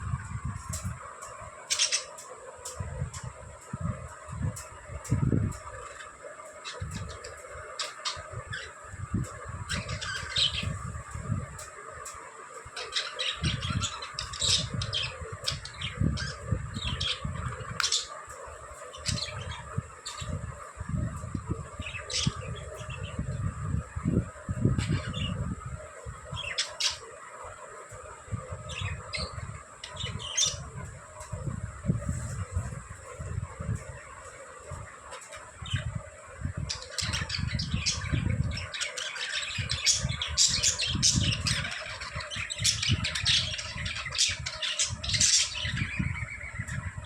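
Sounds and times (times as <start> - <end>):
budgies chirping: 0.6 - 47.0.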